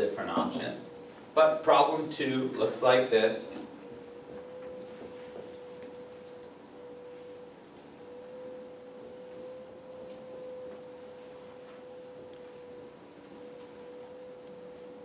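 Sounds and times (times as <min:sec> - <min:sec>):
steady mid-pitched hum: 0:00.0 - 0:15.0.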